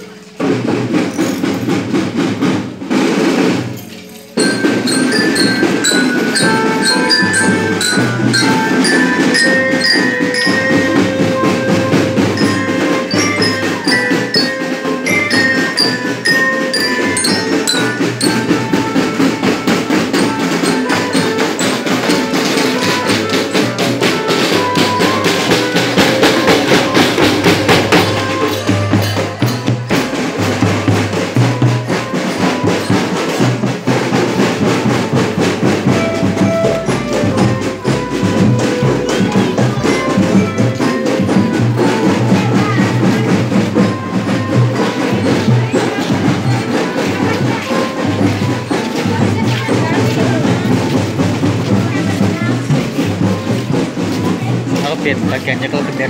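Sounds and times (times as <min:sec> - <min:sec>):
marching snare and bass drums: 0:00.0 - 0:56.0
melodicas: 0:03.2 - 0:56.0.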